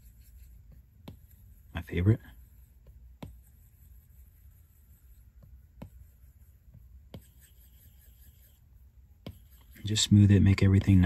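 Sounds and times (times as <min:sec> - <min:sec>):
stylus tapping screen: 0:00.0 - 0:01.7, 0:02.4 - 0:11.0.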